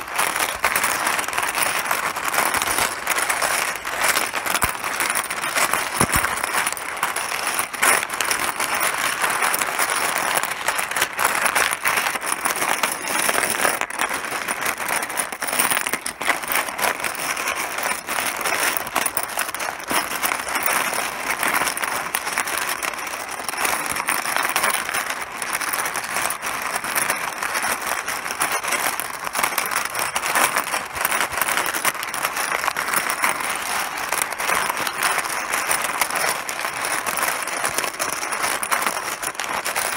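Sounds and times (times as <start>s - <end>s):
mahjong tiles clattering: 0.0s - 39.9s.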